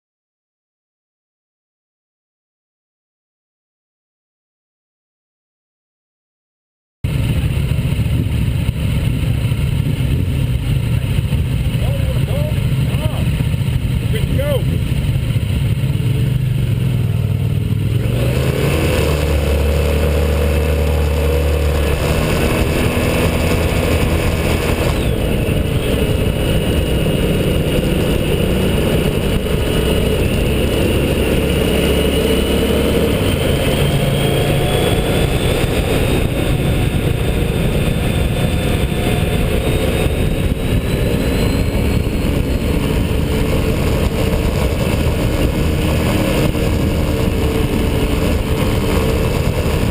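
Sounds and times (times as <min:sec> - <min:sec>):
motorcycle engine running hard: 0:07.0 - 0:49.9.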